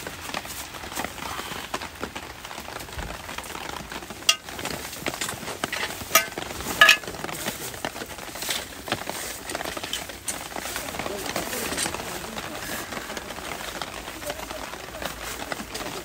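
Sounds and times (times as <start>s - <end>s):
camping gear handling noises: 0.0s - 16.0s
rain pattering on tent fabric: 0.0s - 16.0s.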